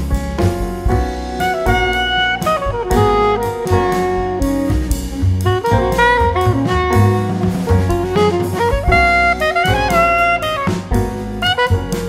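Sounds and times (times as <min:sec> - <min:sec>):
drum kit: 0:00.0 - 0:12.0
upbeat jazz with saxophone: 0:00.0 - 0:12.0.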